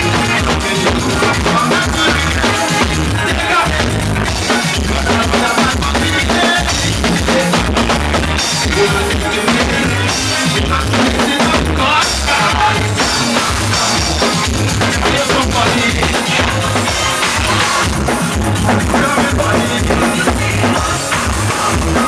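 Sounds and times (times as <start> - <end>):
loud soca music: 0.0 - 22.0.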